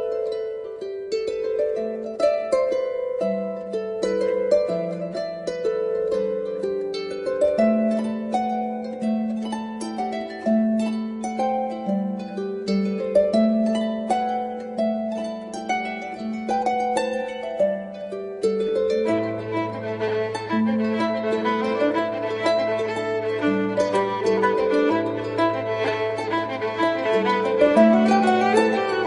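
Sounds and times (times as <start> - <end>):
solo harp music: 0.0 - 29.0.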